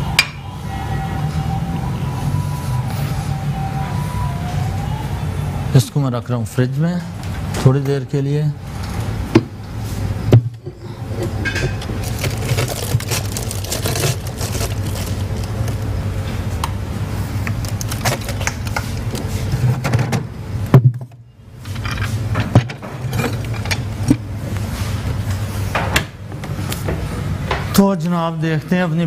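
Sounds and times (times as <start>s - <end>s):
refrigerator low hum: 0.0s - 29.0s.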